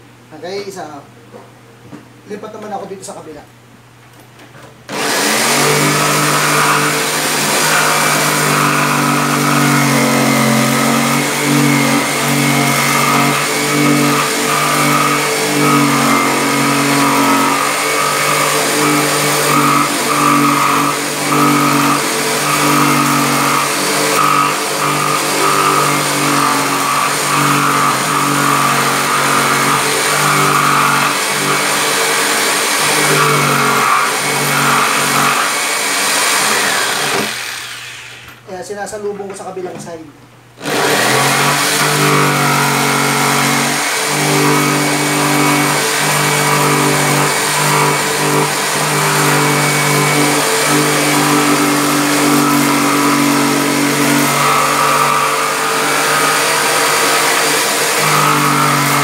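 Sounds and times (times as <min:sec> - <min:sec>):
jigsaw sawing wood: 0:04.9 - 0:38.2, 0:40.6 - 0:59.0.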